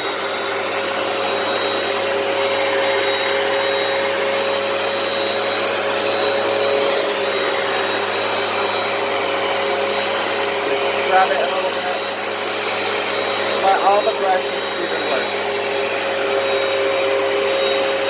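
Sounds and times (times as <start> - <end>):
carpet cleaner running: 0.0 - 18.0.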